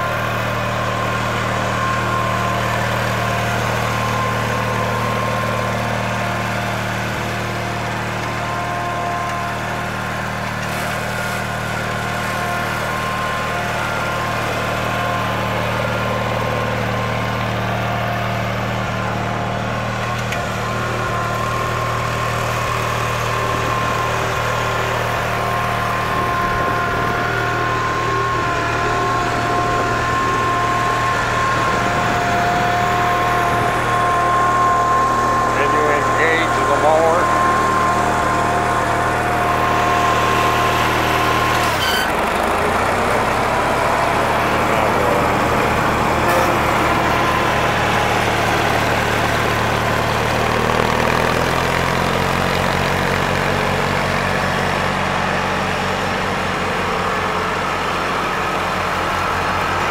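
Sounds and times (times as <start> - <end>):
mower whine: 0.0 - 59.9
riding mower engine running: 0.0 - 59.9.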